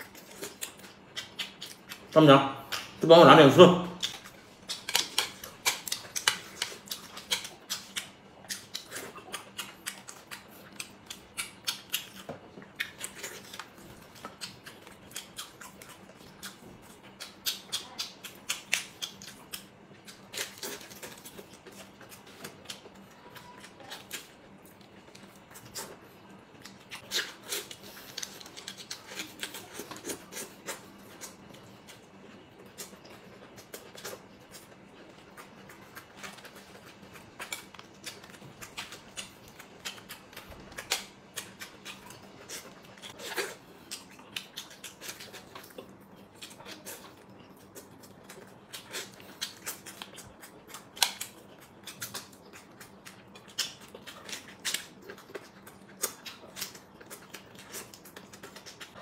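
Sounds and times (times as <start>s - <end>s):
wet chewing and lip-smacking: 0.0s - 3.0s, 3.8s - 59.0s.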